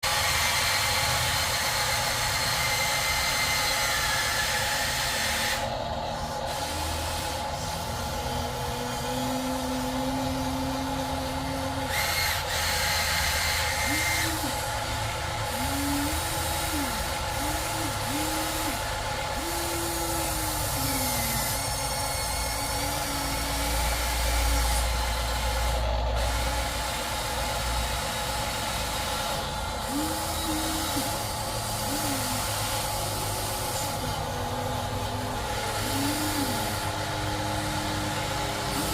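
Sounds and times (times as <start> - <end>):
electric motor whine: 0.0 - 38.9.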